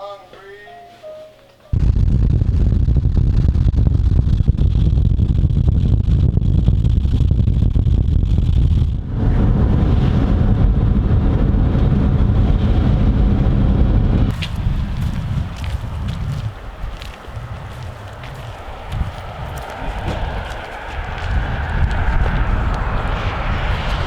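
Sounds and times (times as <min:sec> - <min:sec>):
vehicle road and engine rumble: 0:03.8 - 0:24.0.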